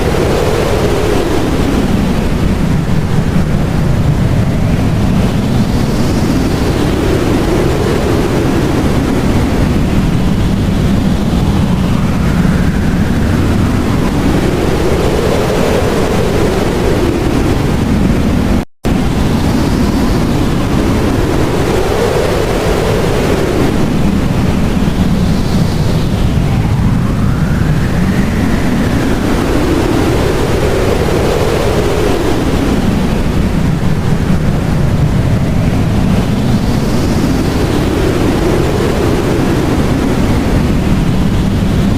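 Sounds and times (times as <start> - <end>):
blizzard wind gusting: 0.0 - 41.9.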